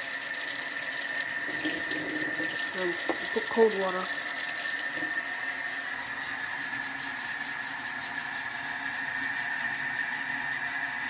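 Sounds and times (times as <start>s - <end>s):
tap water pouring: 0.0s - 11.0s.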